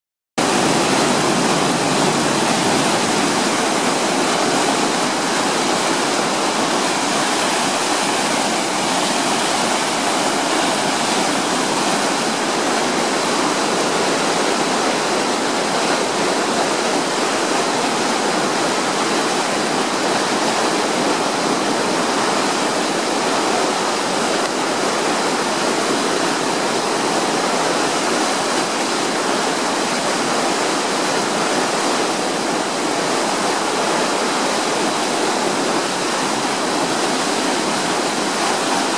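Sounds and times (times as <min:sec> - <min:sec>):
floodwater gushing: 0:00.4 - 0:38.9.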